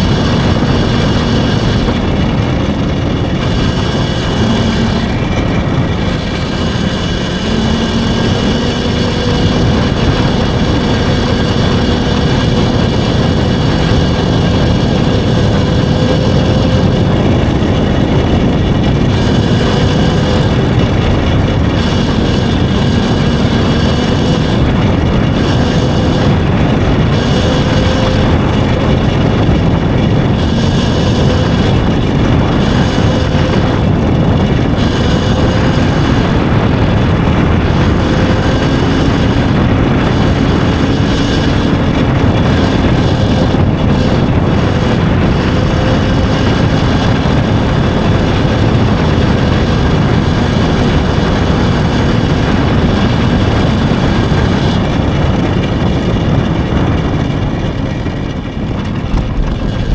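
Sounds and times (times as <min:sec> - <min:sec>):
electric motor whine: 0:00.0 - 0:59.9
wind rush over microphone: 0:00.0 - 0:59.9.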